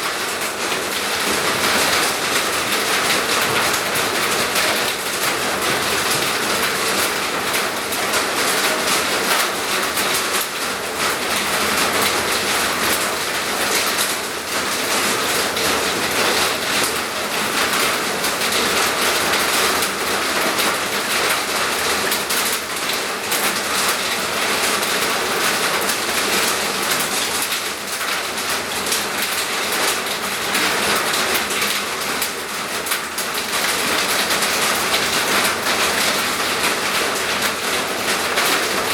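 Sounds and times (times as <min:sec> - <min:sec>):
loud rain falling: 0:00.0 - 0:38.9.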